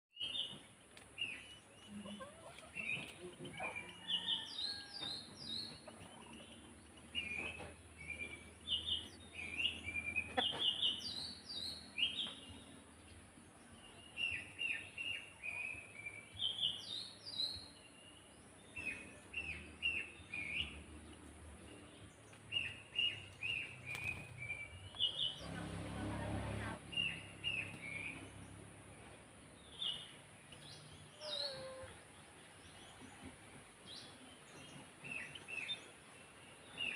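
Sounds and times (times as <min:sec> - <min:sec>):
sparrows chirping: 0:00.2 - 0:36.9.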